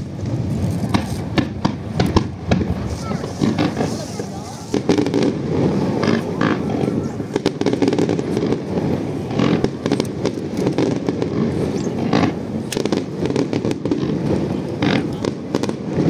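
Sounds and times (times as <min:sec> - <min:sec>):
fireworks booming: 0:00.0 - 0:16.0
fireworks cracking and crackling: 0:00.0 - 0:16.0.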